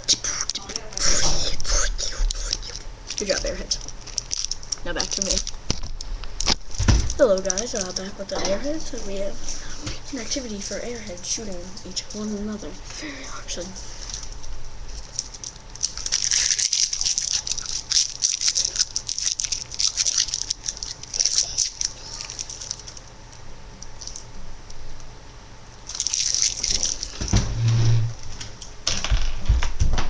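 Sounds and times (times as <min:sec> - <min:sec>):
low hum: 0:00.0 - 0:30.0
crackling rustling noise: 0:01.0 - 0:12.4, 0:13.6 - 0:24.4, 0:25.8 - 0:28.7.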